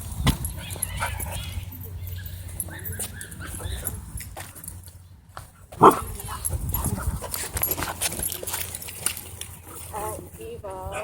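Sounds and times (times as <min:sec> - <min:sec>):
dogs scuffling and barking: 0:00.4 - 0:11.0.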